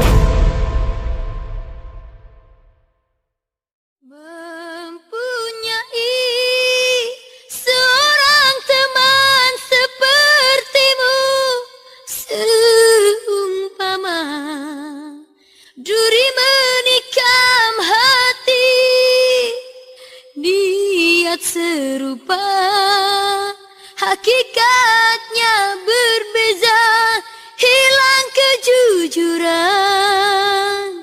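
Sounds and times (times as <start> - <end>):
woman singing a slow ballad: 4.1 - 31.0.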